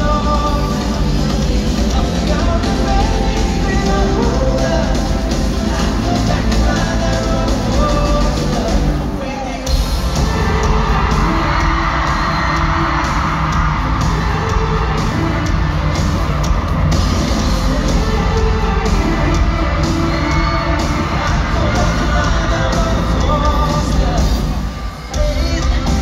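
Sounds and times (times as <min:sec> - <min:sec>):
crowd cheering and whooping: 0:00.0 - 0:26.0
pop band playing live: 0:00.0 - 0:26.0.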